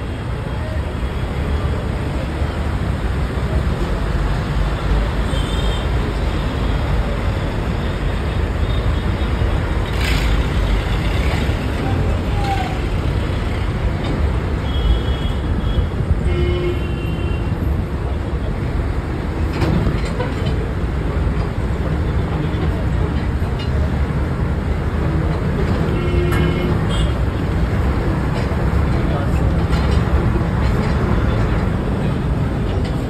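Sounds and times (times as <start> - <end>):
vehicle road rumble and engine: 0.0 - 33.0.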